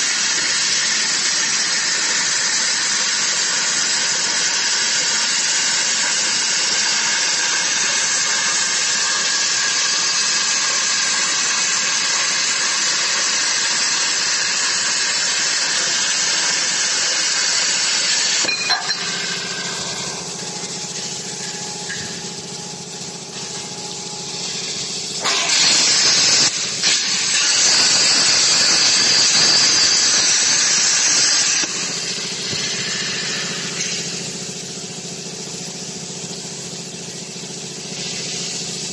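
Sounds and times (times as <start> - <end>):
plasma cutting torch hissing: 0.0 - 38.9.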